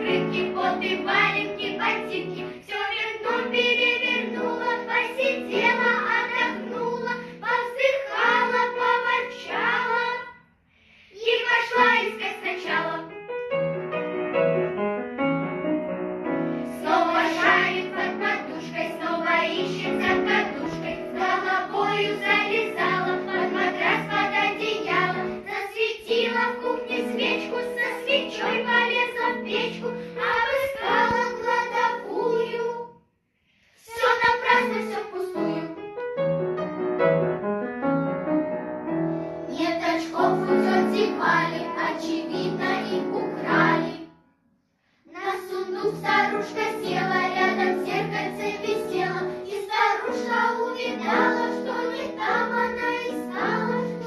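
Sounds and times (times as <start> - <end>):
piano accompaniment: 0.0 - 10.2, 11.4 - 32.9, 33.9 - 44.0, 45.2 - 54.0
children singing: 0.0 - 10.4, 11.2 - 13.1, 16.7 - 32.9, 33.8 - 35.8, 39.5 - 44.1, 45.1 - 54.0.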